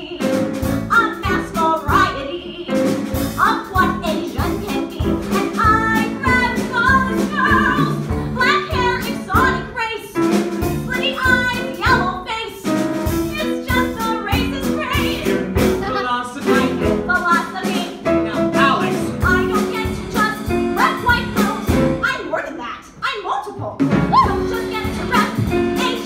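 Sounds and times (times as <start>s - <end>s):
drum kit beat: 0.0s - 26.0s
woman singing: 0.0s - 26.0s.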